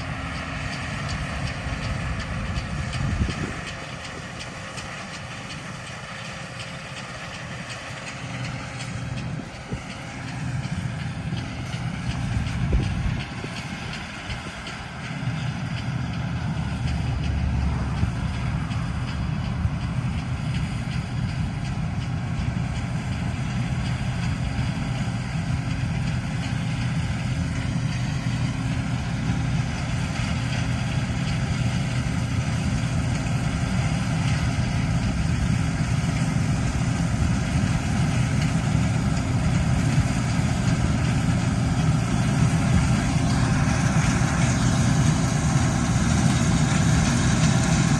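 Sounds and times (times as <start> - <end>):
farm vehicle engine droning: 0.0 - 47.9.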